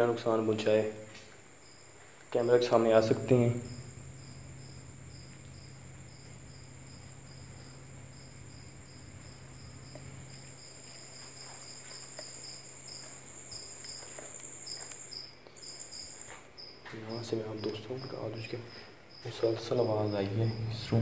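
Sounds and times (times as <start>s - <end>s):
cricket steady trill: 0.0s - 21.0s
faint low hum: 0.0s - 21.0s
cricket pulsing chirp: 1.4s - 21.0s.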